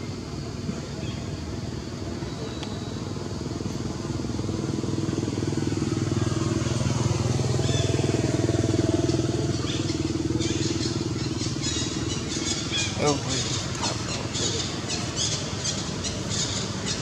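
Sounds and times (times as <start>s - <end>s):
small engine running: 1.4s - 17.0s.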